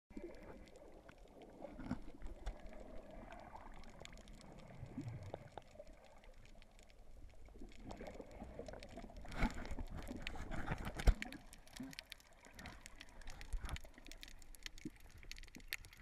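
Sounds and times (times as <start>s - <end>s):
underwater water and air bubbles: 0.1s - 16.0s.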